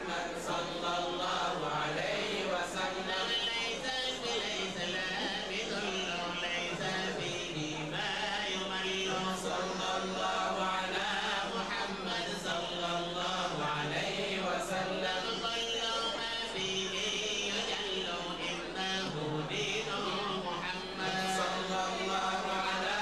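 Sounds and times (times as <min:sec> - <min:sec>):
voices chanting devotional melody: 0:00.0 - 0:23.0.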